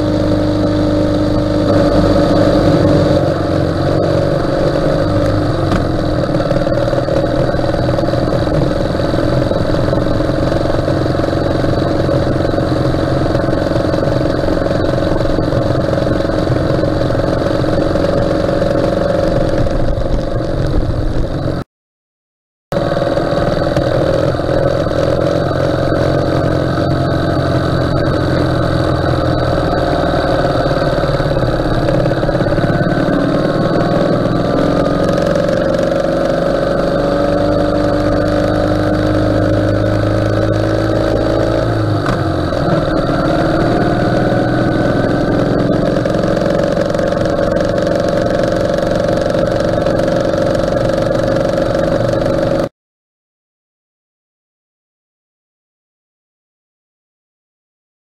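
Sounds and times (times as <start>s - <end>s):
motorcycle engine running: 0.0s - 21.6s, 22.7s - 52.7s.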